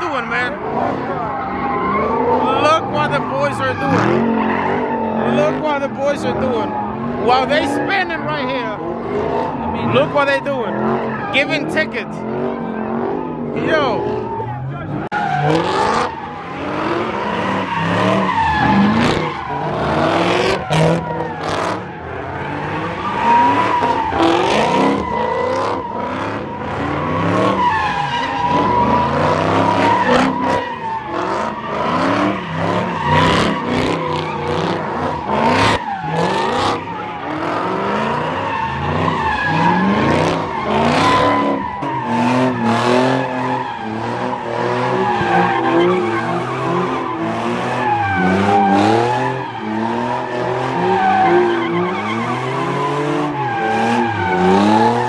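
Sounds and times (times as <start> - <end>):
car engines revving: 0.0 - 55.0
tyres squealing: 0.0 - 55.0.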